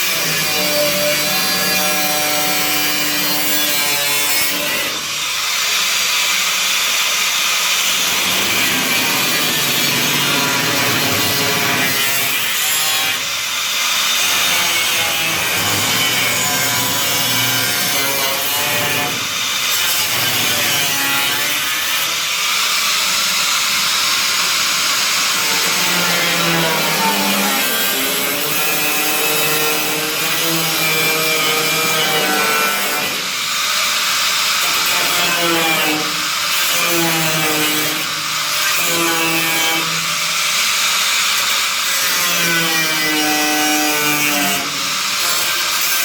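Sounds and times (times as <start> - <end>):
power tool cutting sheet steel: 0.0 - 46.0.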